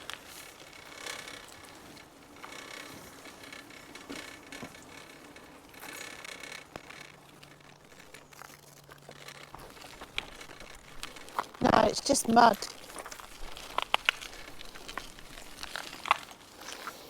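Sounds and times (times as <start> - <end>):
faint footsteps: 0.0 - 17.0
rustling: 0.0 - 17.0.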